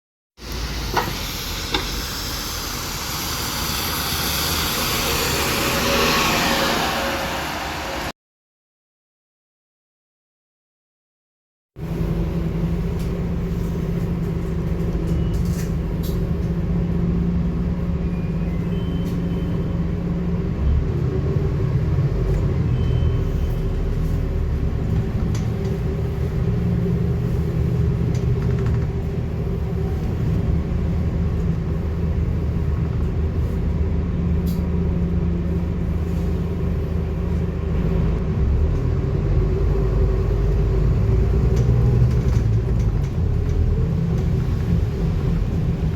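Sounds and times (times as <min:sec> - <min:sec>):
bus diesel engine drone: 0:00.4 - 0:08.2, 0:11.8 - 0:45.9.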